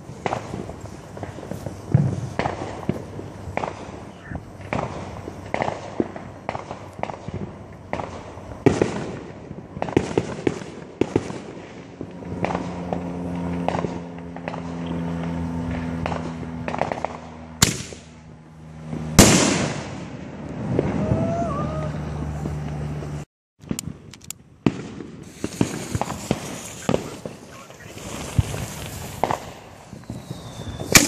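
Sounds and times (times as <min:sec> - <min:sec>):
fireworks popping and banging: 0:00.0 - 0:18.1, 0:22.0 - 0:31.0.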